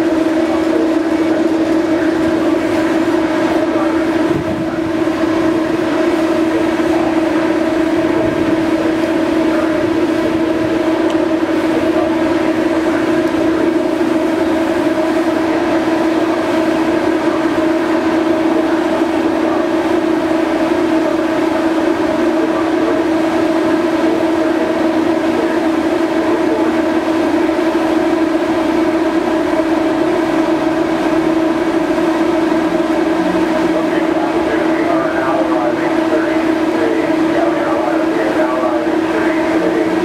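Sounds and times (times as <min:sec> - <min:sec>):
ship machinery humming: 0:00.0 - 0:40.0.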